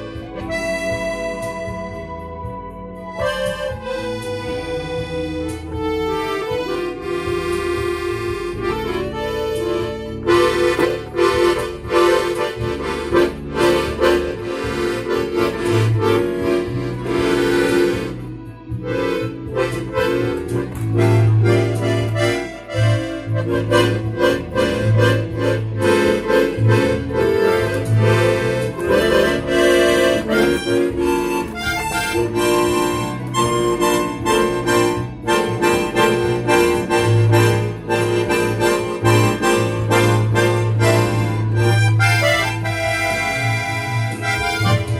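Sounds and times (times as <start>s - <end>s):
accordion playing a tune: 0.0s - 44.9s.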